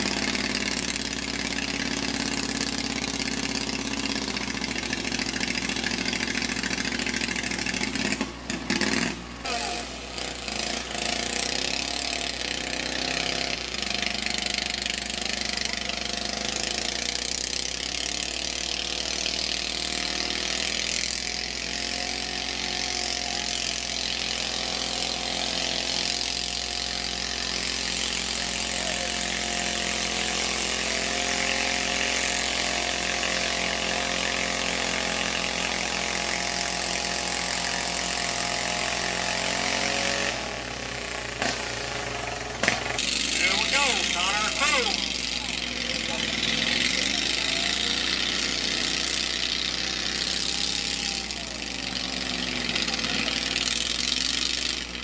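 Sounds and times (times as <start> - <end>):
tractor engine running loudly: 0.0 - 55.0.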